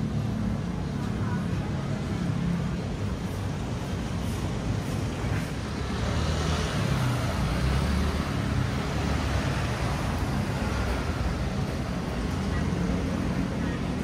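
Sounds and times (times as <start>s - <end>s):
passing motor vehicles rumbling: 0.0s - 14.0s.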